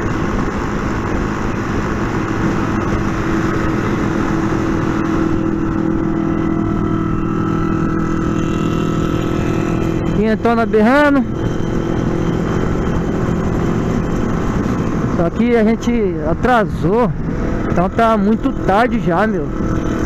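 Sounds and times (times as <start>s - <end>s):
motorcycle engine cruising: 0.0s - 20.0s
wind rushing noise: 0.0s - 20.0s.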